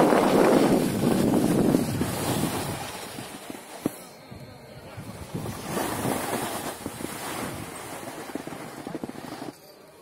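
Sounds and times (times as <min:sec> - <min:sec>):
skis scraping over snow: 0:00.0 - 0:04.2, 0:05.0 - 0:09.8.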